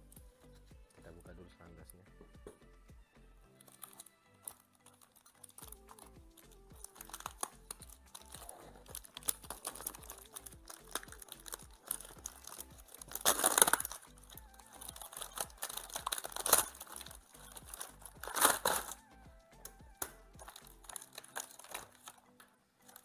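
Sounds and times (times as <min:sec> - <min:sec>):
background music: 0:00.0 - 0:23.0
packaging crinkling and rustling: 0:03.6 - 0:19.1, 0:20.0 - 0:23.0.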